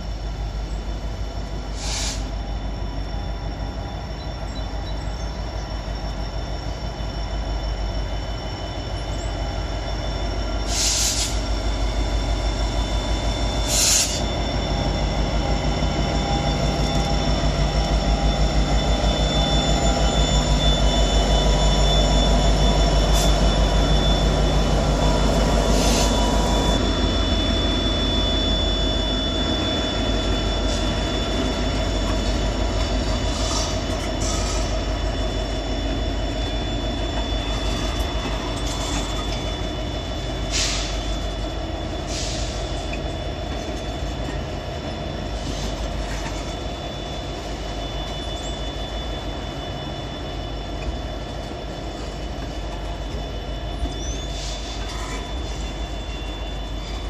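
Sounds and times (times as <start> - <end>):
diesel locomotive rumble: 0.0 - 57.0
high-pitched wheel squeal: 1.9 - 57.0.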